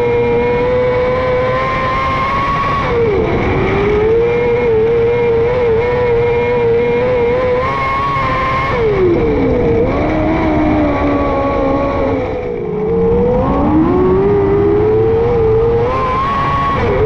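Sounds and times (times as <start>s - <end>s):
racing car engine revving: 0.0s - 17.0s.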